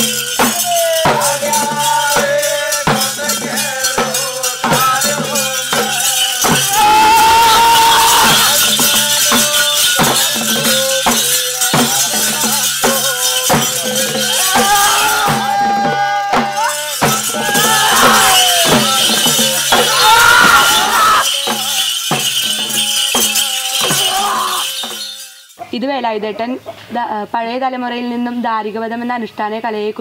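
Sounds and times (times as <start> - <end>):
hand drums beating: 0.0 - 25.8
metal anklets jingling: 0.0 - 26.8
voices singing: 0.0 - 27.2.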